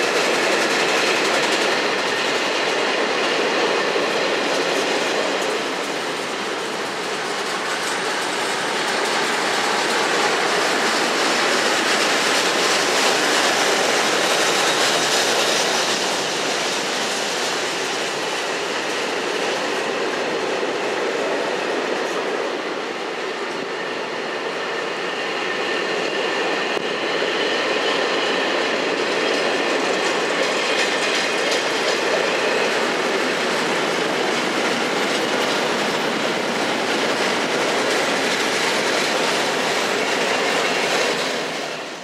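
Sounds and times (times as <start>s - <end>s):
wheels clattering on track: 0.0s - 22.5s, 26.6s - 42.0s
freight train wagons rumbling: 0.0s - 42.0s.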